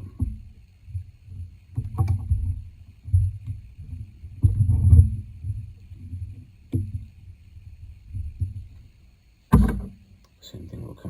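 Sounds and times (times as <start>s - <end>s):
handling thumps and rumbling: 0.0s - 10.1s.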